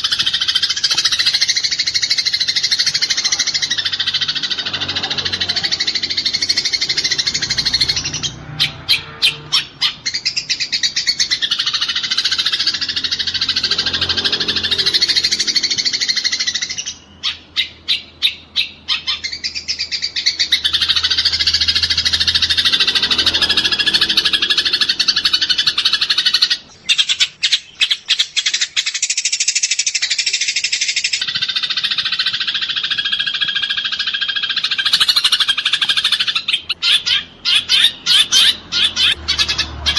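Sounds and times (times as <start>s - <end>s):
sparrows chirping and chattering: 0.0s - 39.9s.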